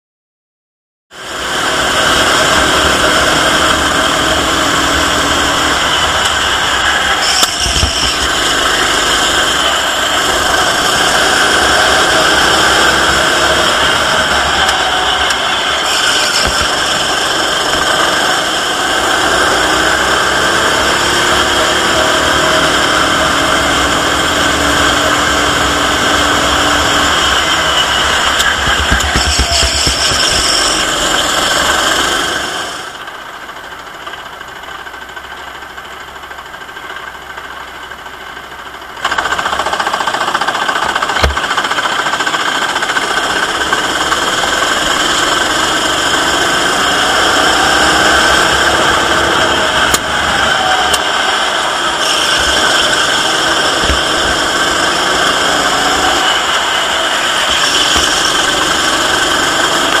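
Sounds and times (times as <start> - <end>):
go-kart engine racing: 1.1 - 60.0.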